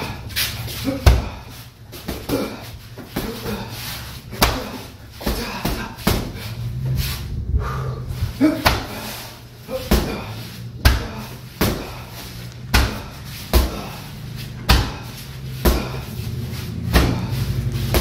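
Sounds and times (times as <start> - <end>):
gloves punching heavy bag: 0.0 - 6.6, 8.4 - 18.0.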